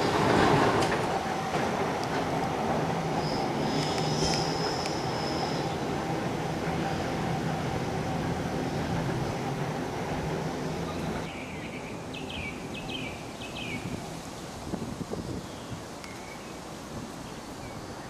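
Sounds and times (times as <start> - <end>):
electric tram rumbling: 0.0 - 18.0.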